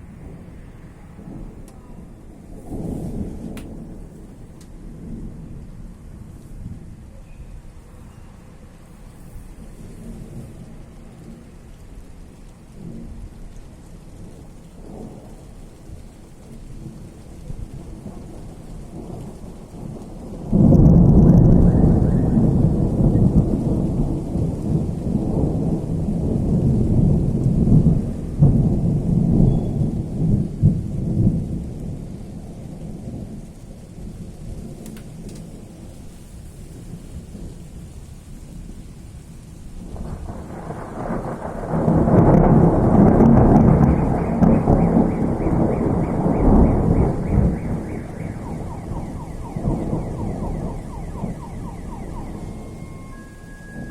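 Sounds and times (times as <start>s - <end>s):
rain falling: 0.0s - 53.9s
thunder rumbling: 0.0s - 53.9s.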